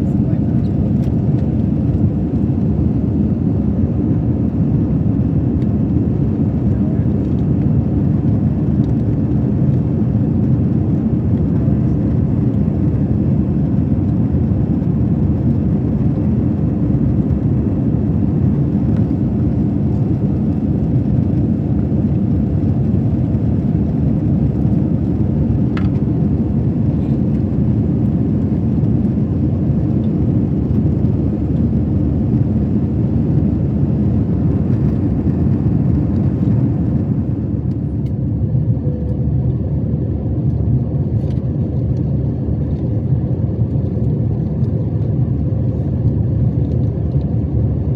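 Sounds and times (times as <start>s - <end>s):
airplane cabin engine noise: 0.0s - 47.9s.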